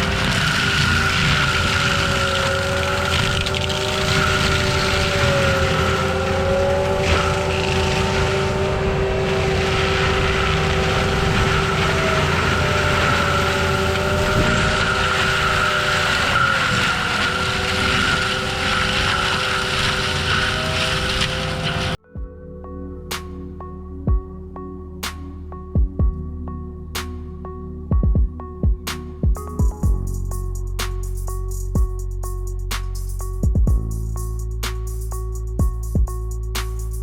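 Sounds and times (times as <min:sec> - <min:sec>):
forestry mulcher droning and whining: 0:00.0 - 0:31.6.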